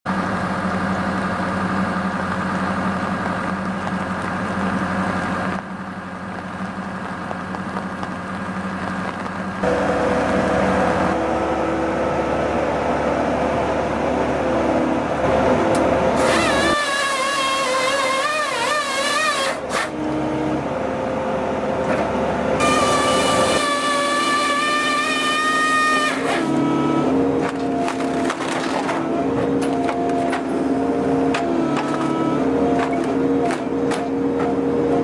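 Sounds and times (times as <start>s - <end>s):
excavator engine and hydraulic drone: 0.1s - 35.0s.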